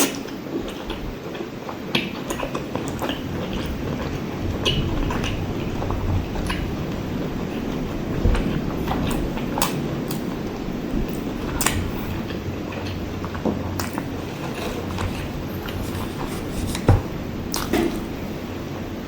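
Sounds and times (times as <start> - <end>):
wet mushy chewing: 0.0 - 18.3.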